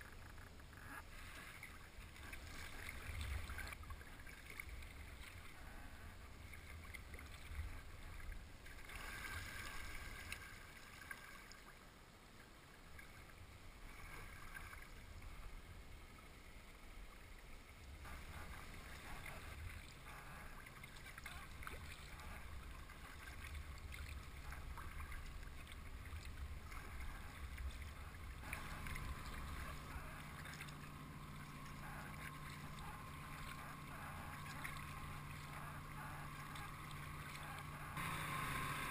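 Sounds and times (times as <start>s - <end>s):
low machinery hum: 0.0s - 38.9s
paddle splashing water: 0.0s - 38.9s.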